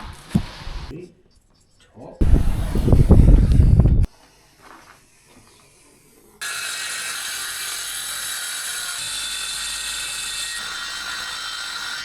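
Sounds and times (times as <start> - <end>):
power tool whirring: 2.2 - 12.0.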